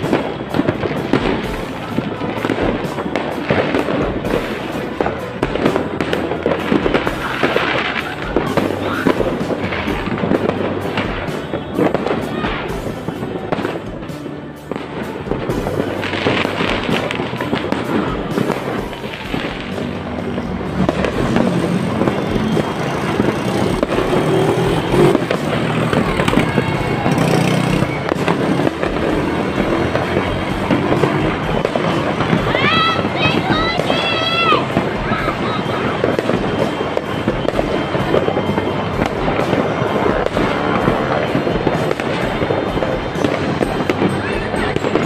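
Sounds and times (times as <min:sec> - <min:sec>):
firecrackers crackling and popping: 0:00.0 - 0:45.0
music playing: 0:00.0 - 0:45.0.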